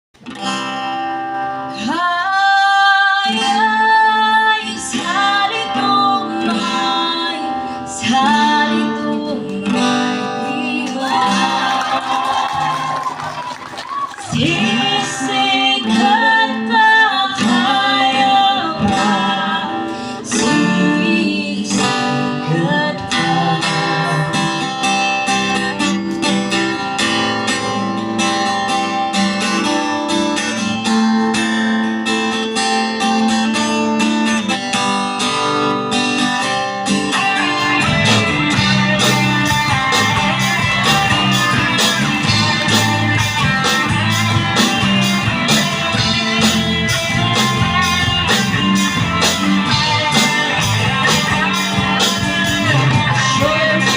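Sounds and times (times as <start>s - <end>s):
guitar: 0.2s - 53.9s
live band playing: 0.2s - 53.9s.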